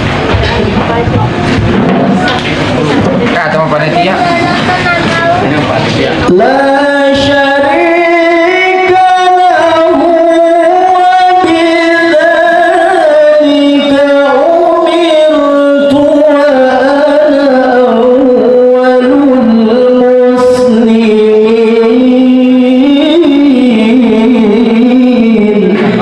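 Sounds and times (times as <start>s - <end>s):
man chanting recitation: 2.8s - 26.0s.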